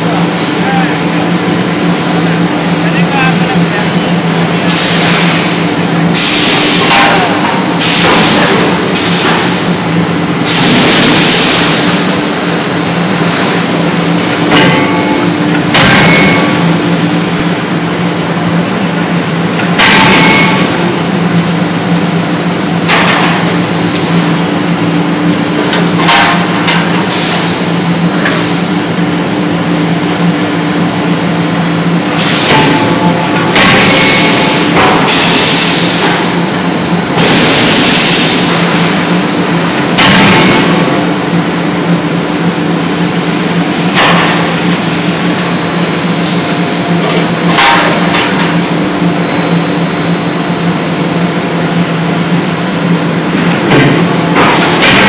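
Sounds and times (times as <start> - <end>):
machine hum and blower noise: 0.0 - 55.0.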